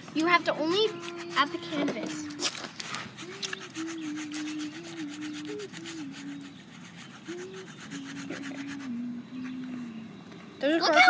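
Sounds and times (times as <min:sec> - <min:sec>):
paintbrush scrubbing on canvas: 0:00.0 - 0:10.0.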